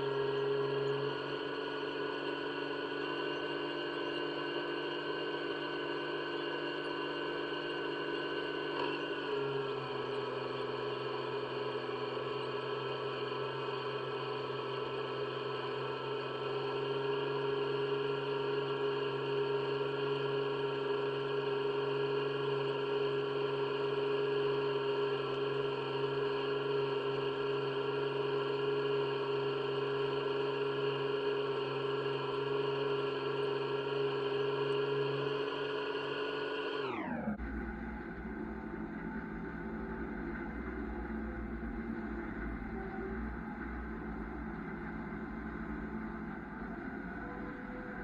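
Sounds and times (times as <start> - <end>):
farm machinery engine droning: 0.0 - 48.0.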